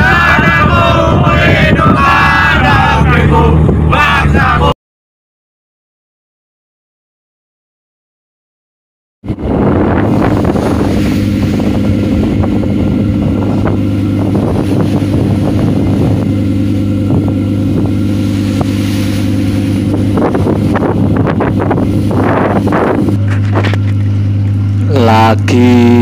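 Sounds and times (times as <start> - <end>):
bow wave splashing along hull: 0.0 - 4.7, 9.2 - 26.0
boat engine droning: 0.0 - 4.8, 9.2 - 26.0.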